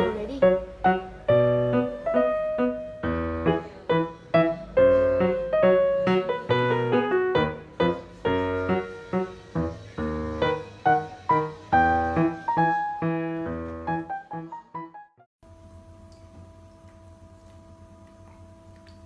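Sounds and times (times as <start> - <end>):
piano music: 0.0 - 15.3.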